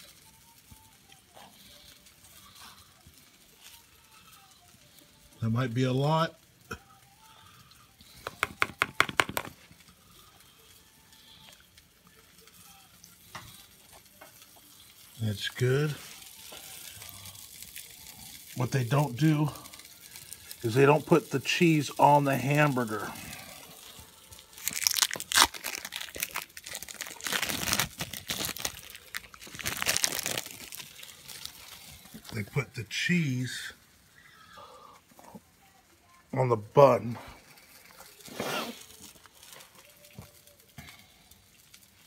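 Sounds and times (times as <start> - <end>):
cheese wrapper crinkling: 0.0 - 35.5, 36.9 - 42.0.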